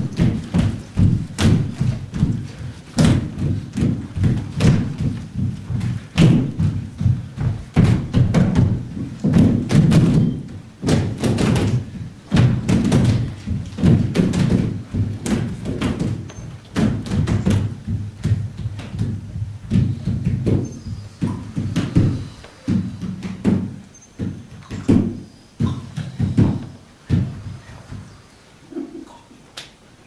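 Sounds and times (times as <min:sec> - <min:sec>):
fast thumps and knocks: 0:00.0 - 0:28.2.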